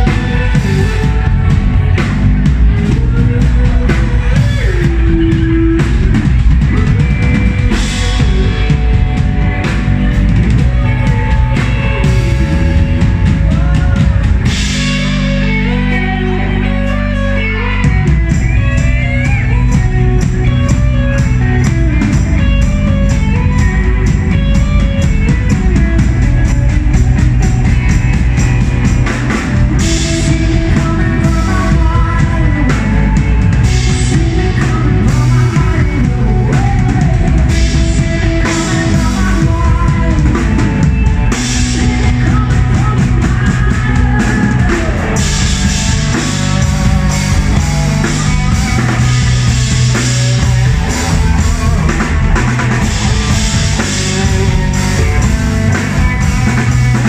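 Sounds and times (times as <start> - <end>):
drum kit: 0.0 - 57.0
lead vocal singing: 0.0 - 57.0
live rock band: 0.0 - 57.0.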